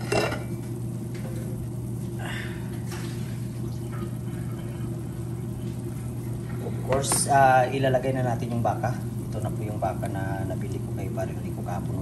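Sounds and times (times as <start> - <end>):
constant low hum: 0.0 - 12.0
water boiling in a pot: 0.0 - 12.0.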